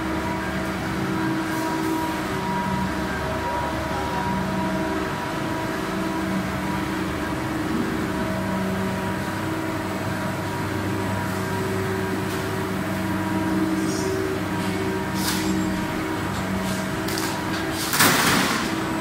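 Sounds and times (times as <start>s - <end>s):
machine drone of motors: 0.0s - 19.0s.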